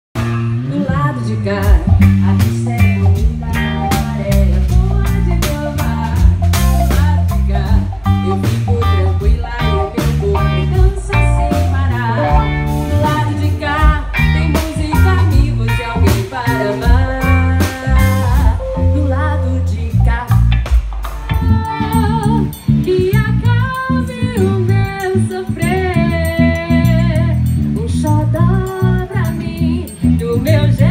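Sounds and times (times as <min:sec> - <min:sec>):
electric bass: 0:00.1 - 0:30.9
electric guitar: 0:00.2 - 0:30.9
person singing: 0:00.5 - 0:30.9.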